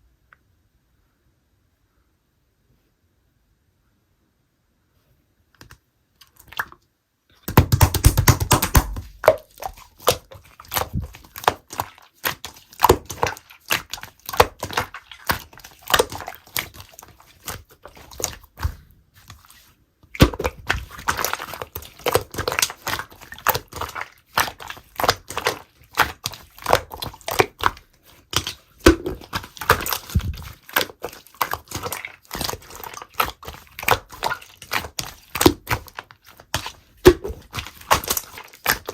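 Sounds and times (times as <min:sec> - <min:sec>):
slime being squished: 0:07.4 - 0:38.9.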